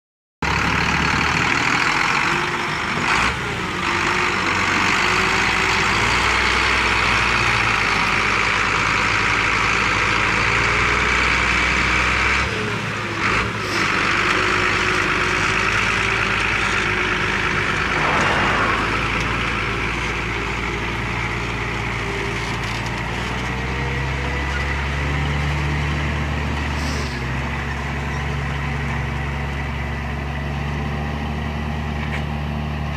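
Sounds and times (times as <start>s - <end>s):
tractor diesel engine under load: 0.4s - 32.9s.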